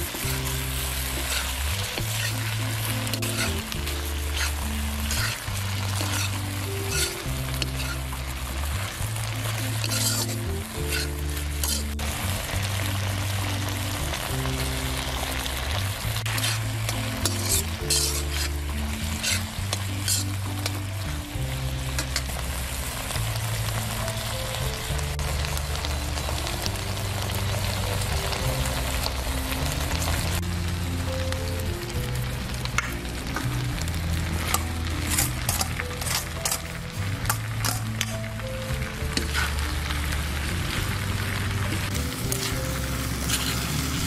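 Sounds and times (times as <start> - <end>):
spatula scraping wok: 0.0 - 24.0, 32.6 - 44.0
background music low notes: 0.0 - 44.0
vegetables sizzling in wok: 0.0 - 44.0.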